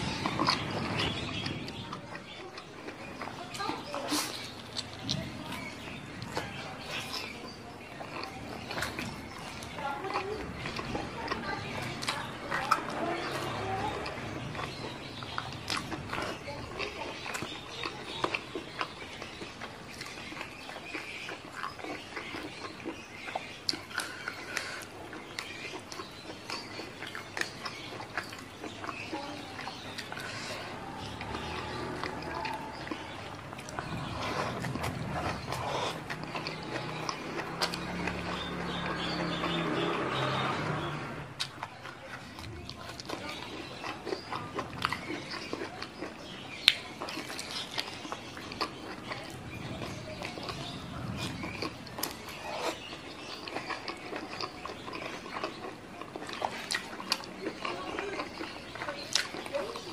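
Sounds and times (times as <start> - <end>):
crisp crackles of leafy greens: 0.0 - 59.9
person chewing: 0.0 - 59.9.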